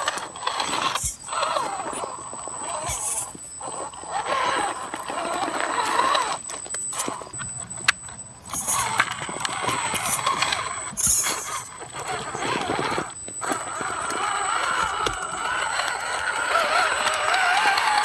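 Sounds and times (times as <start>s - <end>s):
rc truck motor whine: 0.0s - 18.0s
truck clicking on rock: 0.0s - 18.0s.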